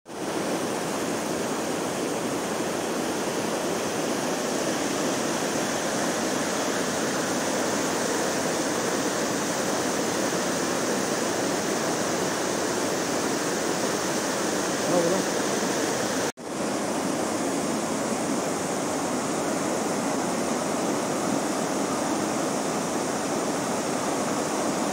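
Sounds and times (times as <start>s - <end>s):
water rushing over rocks: 0.1s - 24.9s.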